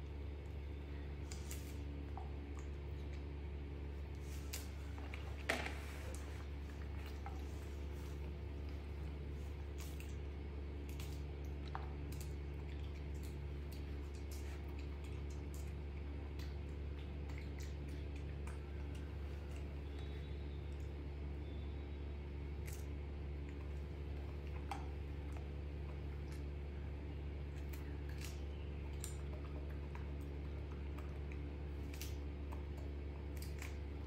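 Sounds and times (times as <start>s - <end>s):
monkey chewing fruit: 0.0s - 34.0s
steady low hum: 0.0s - 34.0s.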